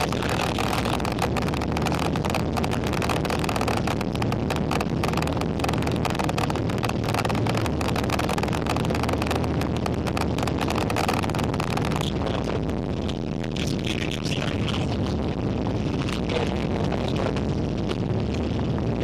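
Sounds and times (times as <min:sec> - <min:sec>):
boat engine droning: 0:00.0 - 0:19.0
wind buffeting microphone: 0:00.0 - 0:19.0.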